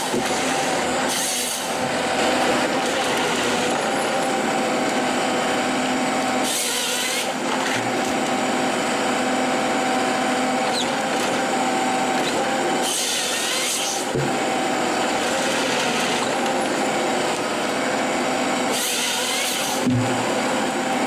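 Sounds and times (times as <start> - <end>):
chainsaw bar cutting log: 0.0 - 5.0, 5.8 - 8.4, 10.5 - 20.4
forestry harvester running: 0.0 - 21.0.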